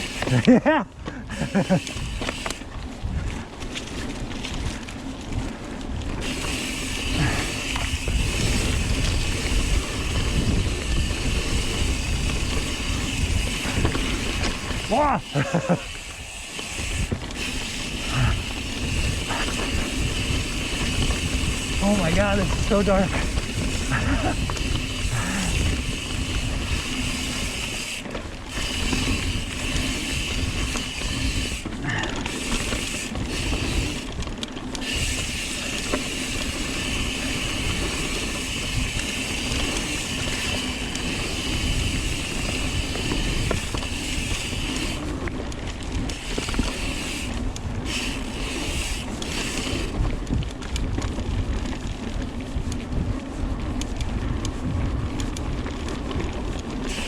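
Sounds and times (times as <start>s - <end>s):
bike freewheel buzzing: 0.0s - 57.0s
bike rattling over ground: 0.0s - 57.0s
bike tyres rolling on dirt: 0.0s - 57.0s.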